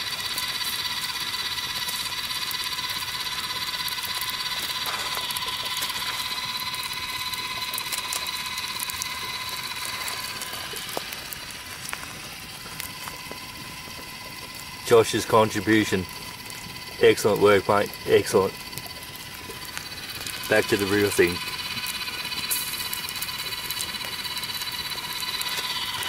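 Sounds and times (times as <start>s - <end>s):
campfire coals hissing and crackling: 0.0s - 26.0s
meat sizzling: 0.0s - 26.0s.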